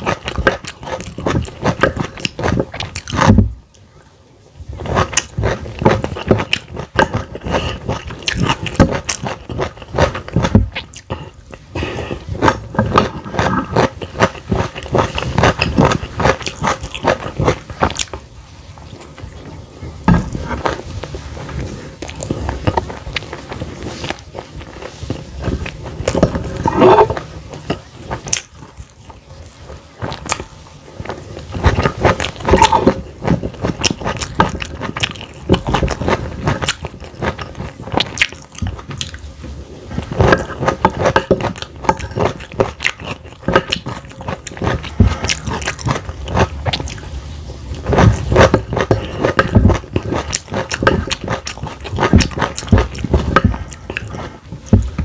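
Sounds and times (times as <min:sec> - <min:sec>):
chewing food: 0:00.0 - 0:03.9, 0:04.6 - 0:55.0
wet mouth noises: 0:00.0 - 0:03.9, 0:04.7 - 0:19.4, 0:20.0 - 0:55.0.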